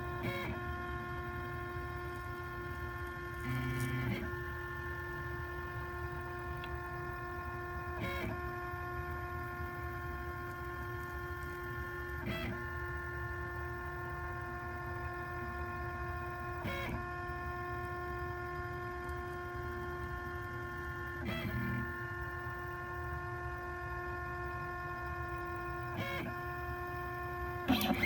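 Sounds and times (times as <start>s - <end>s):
cnc machine whine: 0.0s - 28.0s.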